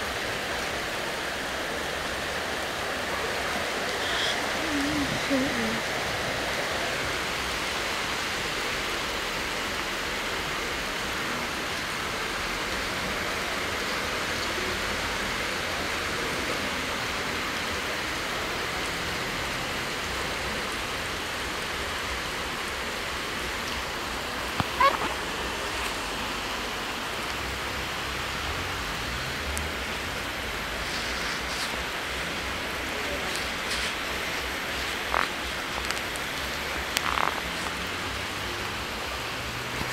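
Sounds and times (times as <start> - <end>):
heavy rain on street: 0.0 - 39.9
rushing floodwater: 0.0 - 39.9.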